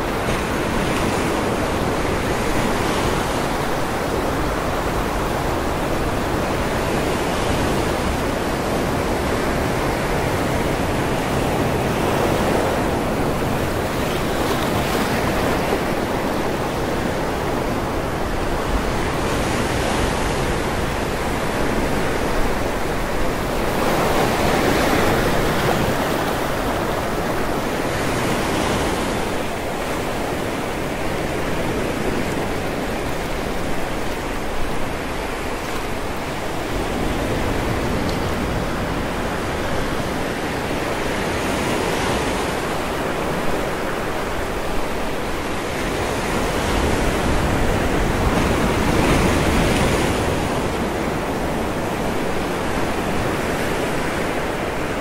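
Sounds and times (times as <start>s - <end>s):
waves breaking on a beach: 0.0s - 55.0s.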